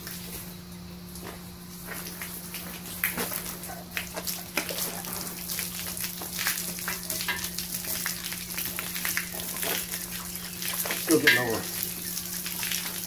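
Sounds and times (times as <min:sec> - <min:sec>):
hose water spraying: 0:00.0 - 0:13.0
steady low hum: 0:00.0 - 0:13.0
water splashing: 0:01.9 - 0:13.0.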